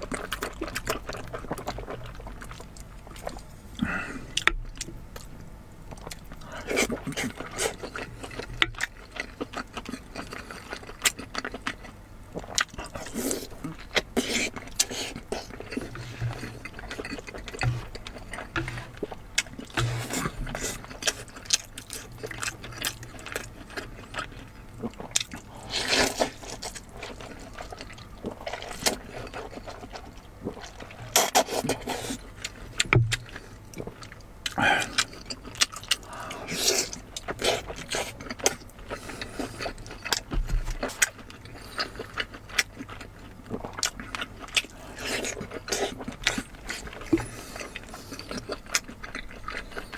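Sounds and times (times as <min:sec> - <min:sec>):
wet chewing and mouth sounds: 0:00.0 - 0:49.9.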